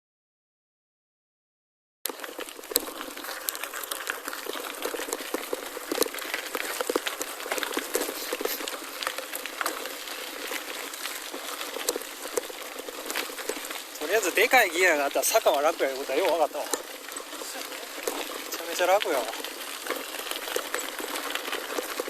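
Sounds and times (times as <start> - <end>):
bike tyres on gravel: 2.1 - 22.0
small sharp clicks and rattles: 2.1 - 22.0.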